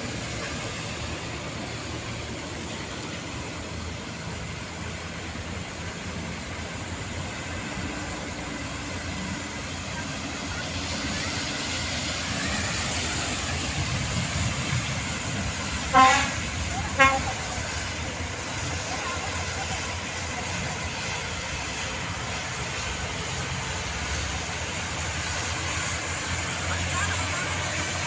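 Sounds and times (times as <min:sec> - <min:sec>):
heavy trucks driving past: 0:00.0 - 0:28.0.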